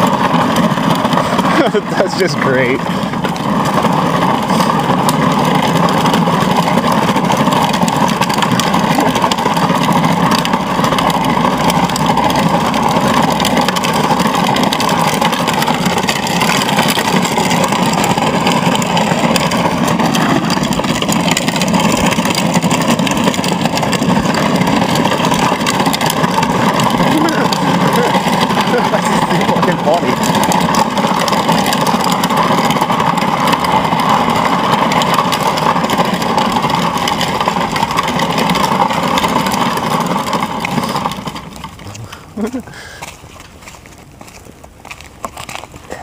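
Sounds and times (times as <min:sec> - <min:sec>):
electric motor running steadily: 0:00.0 - 0:46.0.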